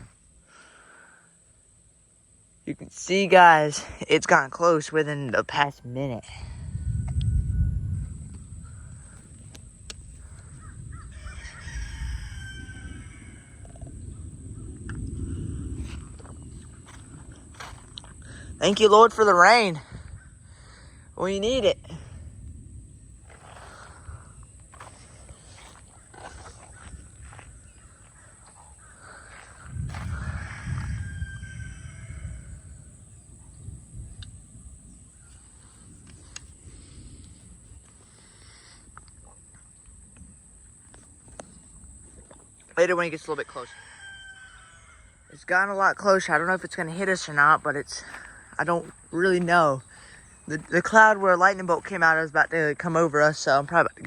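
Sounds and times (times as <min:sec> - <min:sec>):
wind rumbling on microphone: 0:00.0 - 0:00.3, 0:05.3 - 0:54.0.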